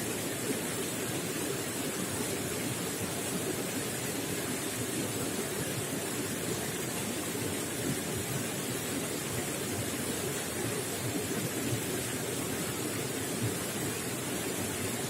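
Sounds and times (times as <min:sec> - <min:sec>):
running water gurgling: 0:00.0 - 0:15.0.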